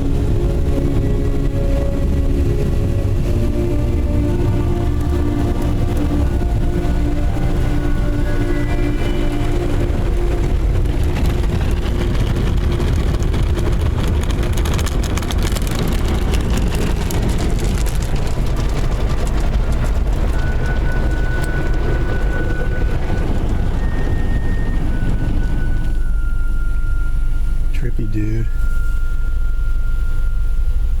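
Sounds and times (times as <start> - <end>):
car wash machinery and water: 0.0 - 27.9
thin steady whine: 0.0 - 31.0.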